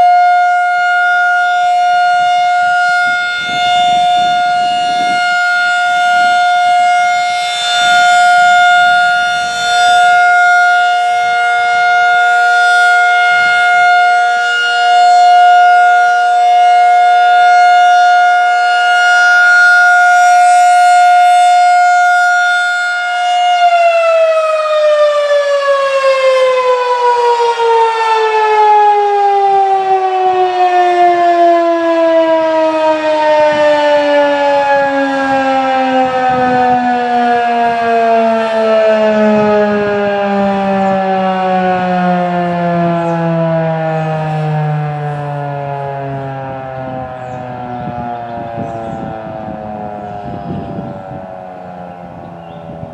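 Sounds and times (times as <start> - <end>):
rotating siren alert tone: 0.0 - 52.9.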